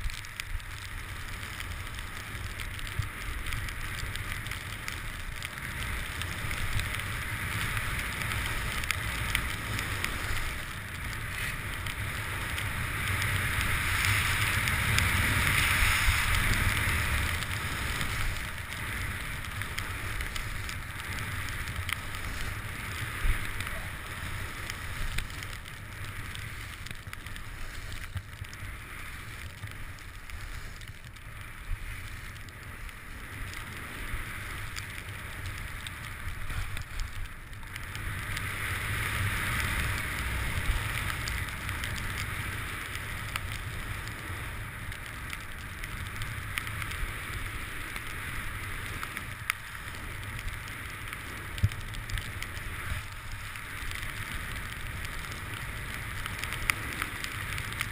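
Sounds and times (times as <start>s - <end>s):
skis sliding on snow: 0.0s - 57.9s.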